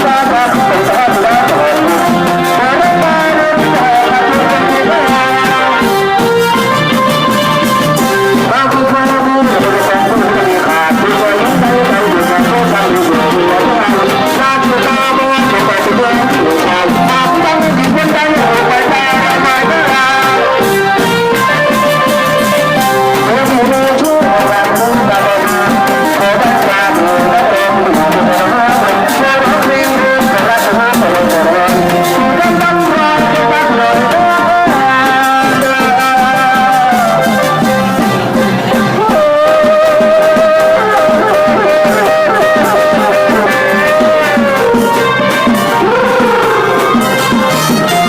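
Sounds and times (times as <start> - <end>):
brass melody: 0.0 - 48.0
drums: 0.0 - 48.0
percussion beat: 0.0 - 48.0.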